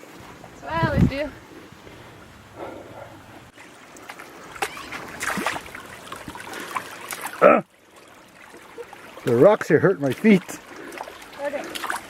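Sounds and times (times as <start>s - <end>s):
stream water running: 0.0s - 12.0s
splashing footsteps in water: 1.4s - 7.4s, 8.0s - 12.0s.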